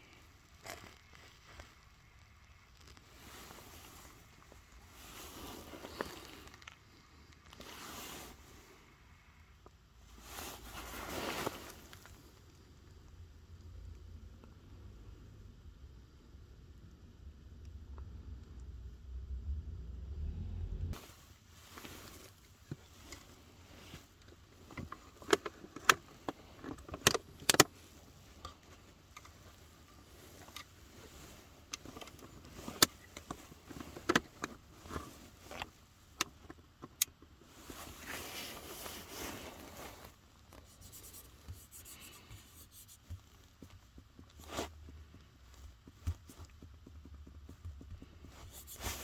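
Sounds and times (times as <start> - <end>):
rustling: 0.0 - 8.9, 10.0 - 12.6, 20.2 - 49.0.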